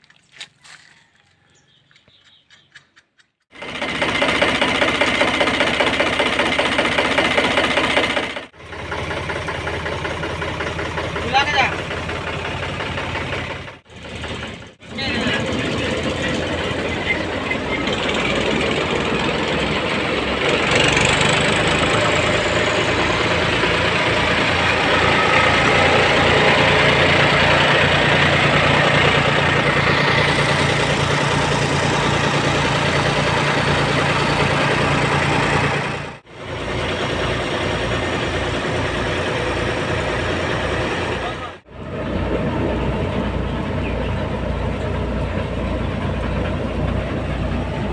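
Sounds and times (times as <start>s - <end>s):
threshing machine and tractor running: 3.5s - 47.9s.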